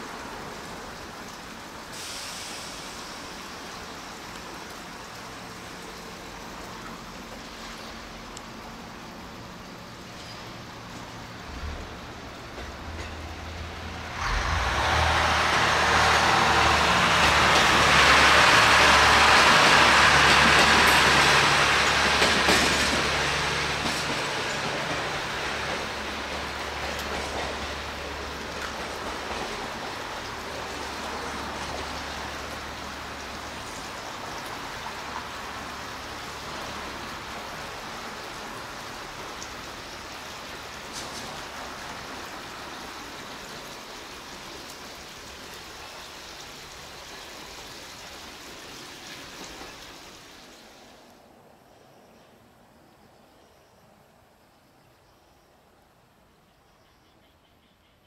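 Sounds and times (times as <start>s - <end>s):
train on the rails: 0.0s - 58.0s.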